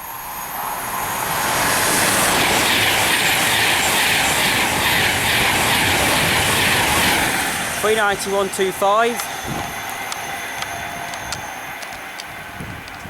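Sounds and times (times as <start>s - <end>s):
train passing with rushing roar: 0.0s - 13.0s.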